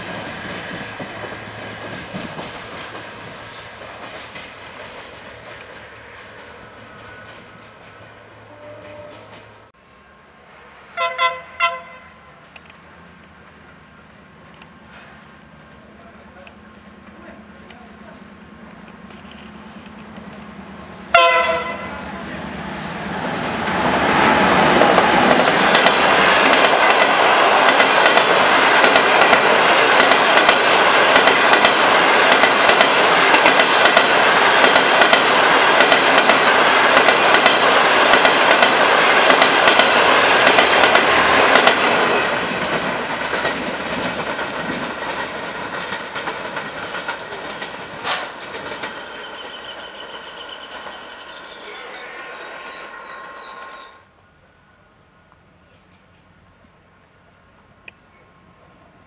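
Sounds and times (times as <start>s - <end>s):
train passing rumble: 0.0s - 59.0s.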